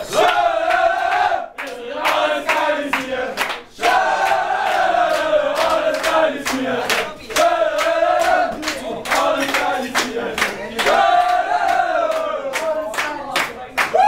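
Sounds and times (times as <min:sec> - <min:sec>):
men chanting in unison: 0:00.0 - 0:13.4
rhythmic hand claps: 0:00.0 - 0:14.0.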